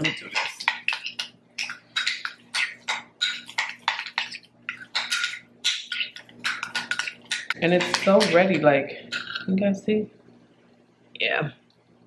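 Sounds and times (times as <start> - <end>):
fork mashing avocado in a bowl: 0.0 - 9.7.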